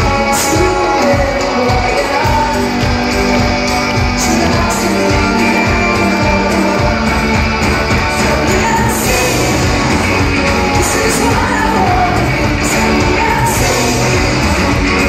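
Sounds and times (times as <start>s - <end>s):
live pop-rock band: 0.0s - 15.0s
woman singing lead: 0.0s - 15.0s.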